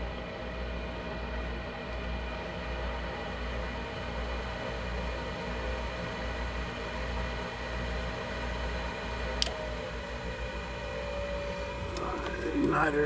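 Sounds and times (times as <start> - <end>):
furnace fan whooshing hum: 0.0 - 13.0.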